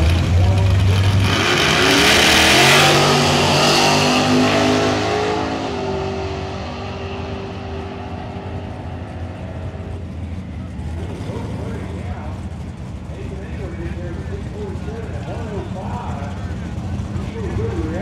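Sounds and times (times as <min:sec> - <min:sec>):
drag car engines at full throttle: 0:00.0 - 0:18.0.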